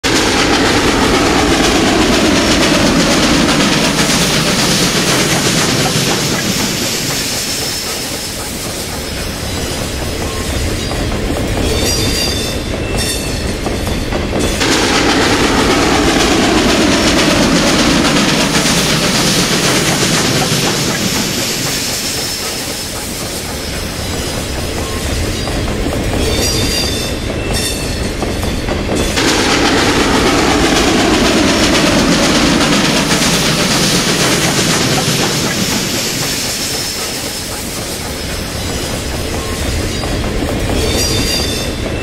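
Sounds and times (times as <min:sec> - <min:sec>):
steam locomotive exhaust rumble: 0:00.0 - 0:42.0.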